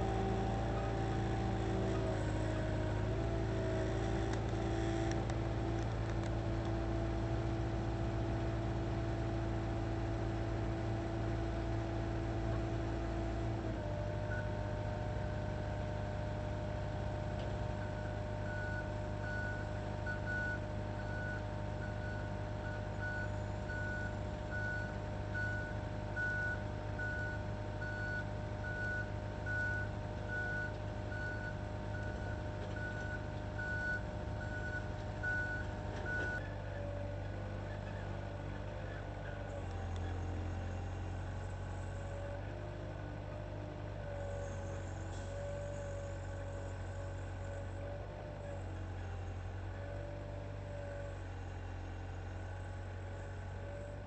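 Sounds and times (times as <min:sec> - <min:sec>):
engine drone: 0:00.0 - 0:54.0.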